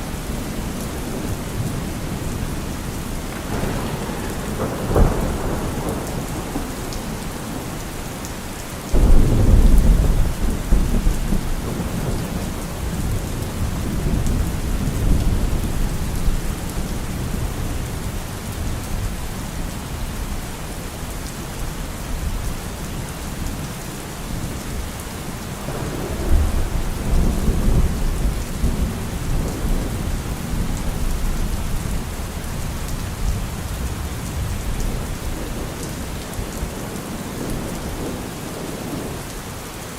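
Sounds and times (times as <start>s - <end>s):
heavy rain: 0.0s - 39.9s
thunder rumbling: 0.1s - 20.7s, 25.6s - 39.3s.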